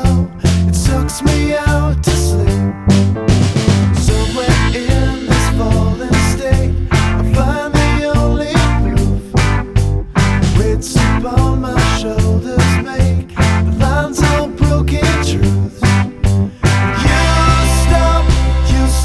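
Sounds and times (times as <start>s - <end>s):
rock music: 0.0s - 19.0s.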